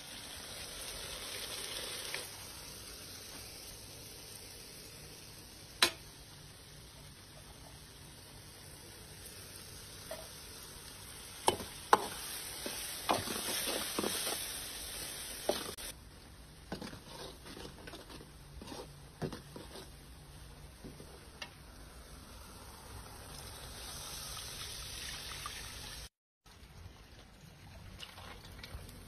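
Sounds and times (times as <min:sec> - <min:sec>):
sauce sizzling in hot oil: 0:00.0 - 0:26.2.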